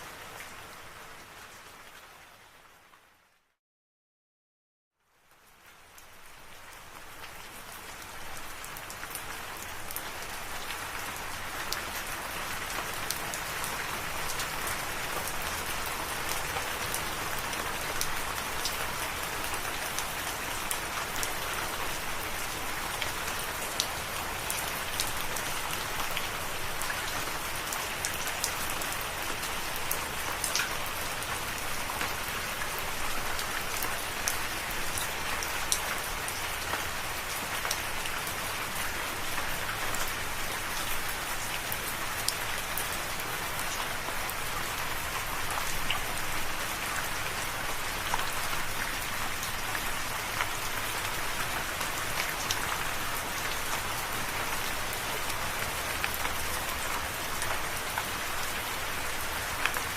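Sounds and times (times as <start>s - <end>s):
rain falling: 0.0s - 3.5s, 5.0s - 59.9s.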